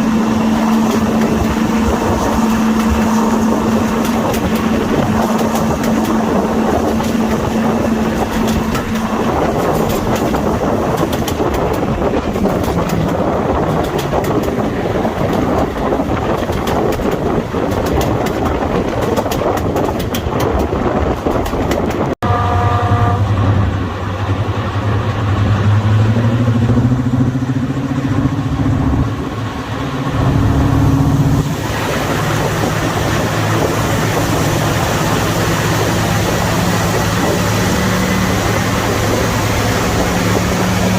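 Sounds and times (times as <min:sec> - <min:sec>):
wheels clattering over rails: 0:00.0 - 0:22.2, 0:27.9 - 0:40.9
diesel engines working hard: 0:00.0 - 0:40.9.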